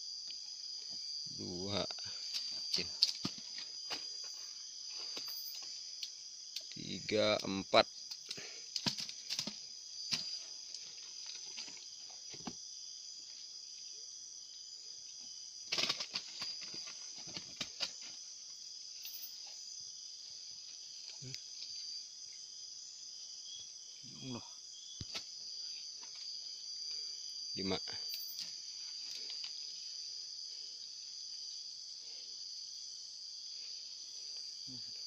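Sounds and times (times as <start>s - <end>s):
crickets and insects chirring: 0.0s - 35.0s.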